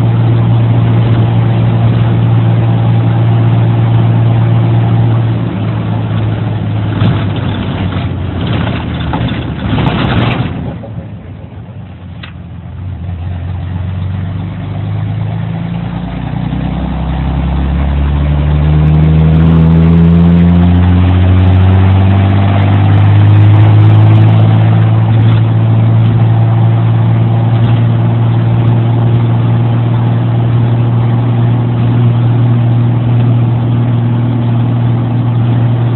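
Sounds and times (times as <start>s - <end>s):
loud raspy car engine: 0.0s - 35.9s.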